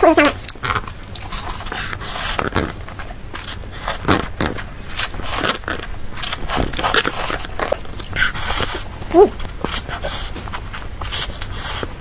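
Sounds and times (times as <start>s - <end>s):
crunchy food chewing: 0.0s - 12.0s.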